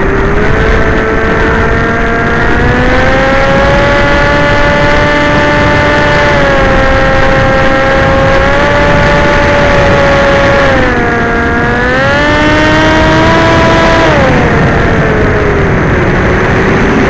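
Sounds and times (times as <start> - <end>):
model aircraft motor whining: 0.0 - 17.0
rushing wind noise: 0.0 - 17.0.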